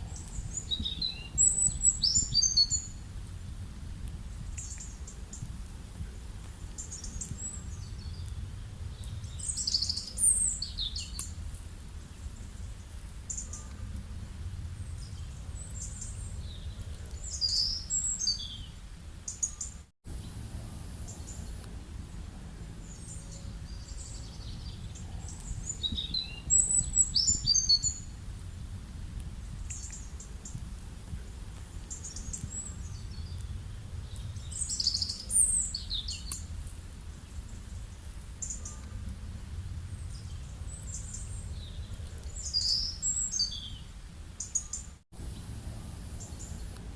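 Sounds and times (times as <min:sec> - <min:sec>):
low steady rumble: 0:00.0 - 0:19.3, 0:20.1 - 0:44.4, 0:45.2 - 0:46.9
songbirds chirping: 0:00.0 - 0:46.9.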